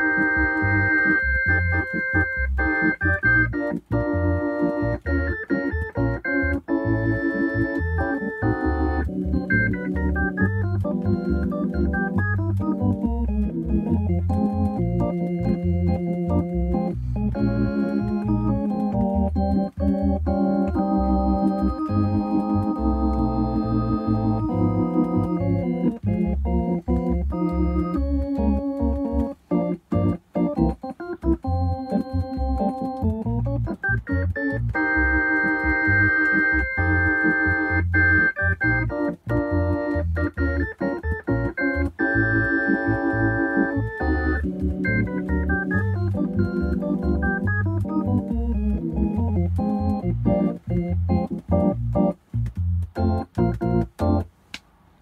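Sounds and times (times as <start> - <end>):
organ chords over bass line: 0.0 - 54.3.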